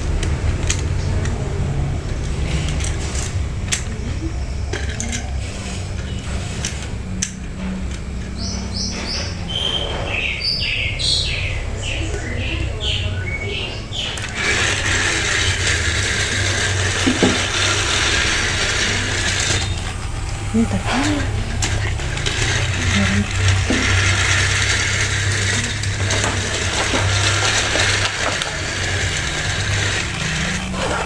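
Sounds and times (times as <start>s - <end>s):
toy train motor hum: 0.0s - 31.0s.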